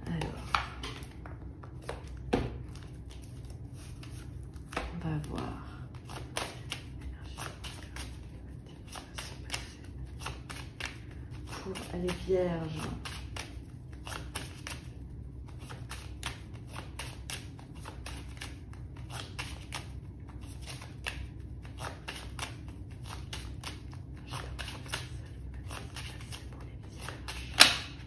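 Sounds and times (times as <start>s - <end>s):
cards being shuffled: 0.0s - 28.0s.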